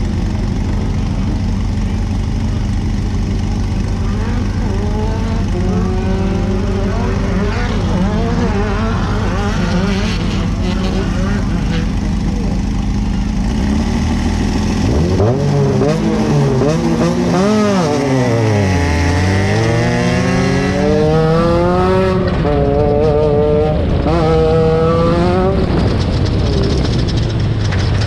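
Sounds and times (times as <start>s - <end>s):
low engine drone: 0.0s - 28.0s
race vehicle engine revving: 0.0s - 28.0s.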